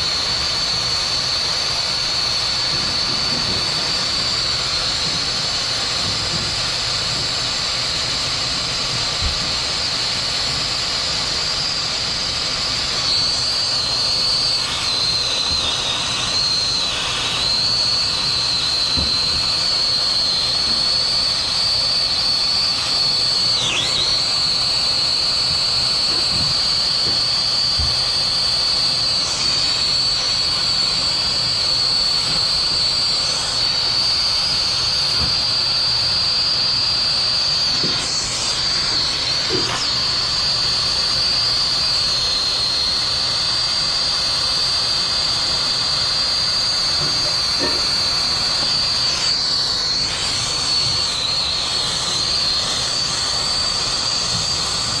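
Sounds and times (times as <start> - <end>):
high whistle: 0.0 - 55.0
torch flame hissing: 0.0 - 55.0.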